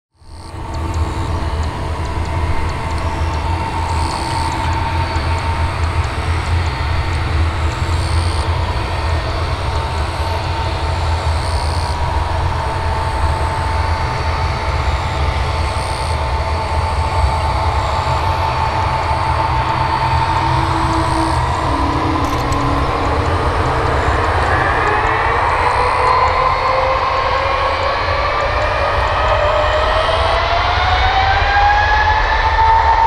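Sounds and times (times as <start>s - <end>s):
jet engines rumbling and whining: 0.2s - 33.0s.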